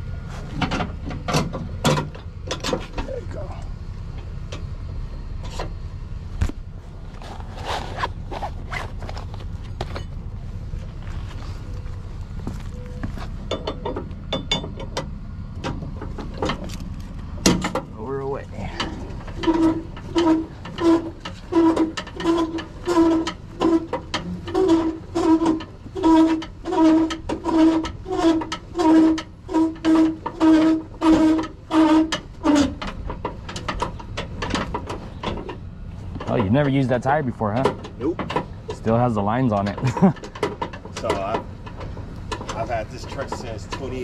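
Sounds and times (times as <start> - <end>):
winch crank squeaking: 7.2 - 44.0.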